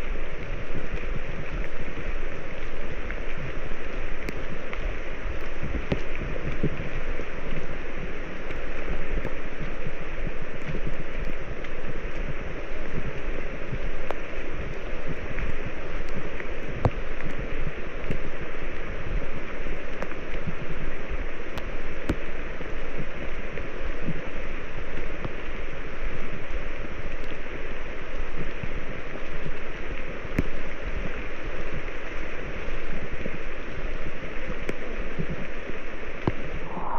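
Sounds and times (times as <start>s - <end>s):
water rushing: 0.0s - 36.9s.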